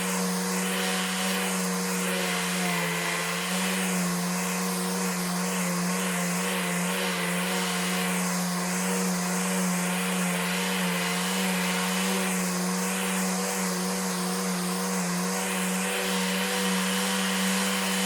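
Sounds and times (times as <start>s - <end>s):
electric sander running: 0.0s - 18.0s.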